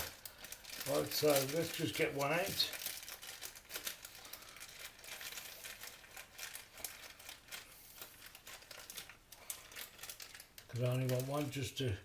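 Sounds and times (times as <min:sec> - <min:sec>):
plastic packet crinkling: 0:00.0 - 0:12.0.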